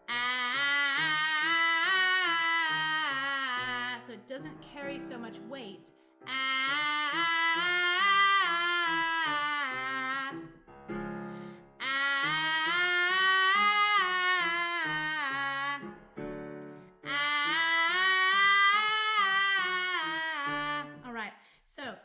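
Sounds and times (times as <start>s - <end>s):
piano: 0.0s - 21.1s
woman singing scales: 0.0s - 21.9s.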